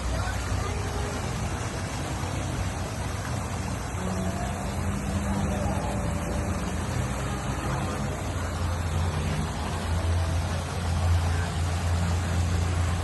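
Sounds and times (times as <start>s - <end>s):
low machinery hum: 0.0s - 13.0s
water rushing: 0.0s - 13.0s.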